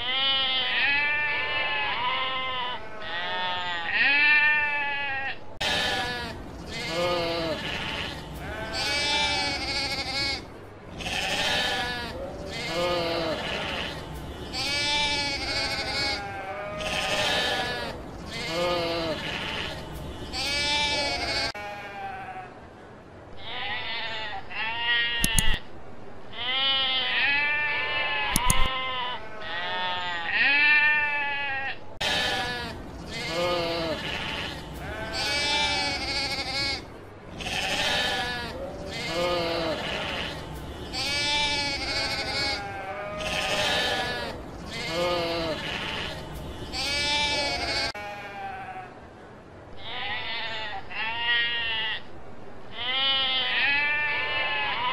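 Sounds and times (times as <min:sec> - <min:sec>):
sheep bleating: 0:00.0 - 0:22.5, 0:26.4 - 0:48.9, 0:52.8 - 0:54.9.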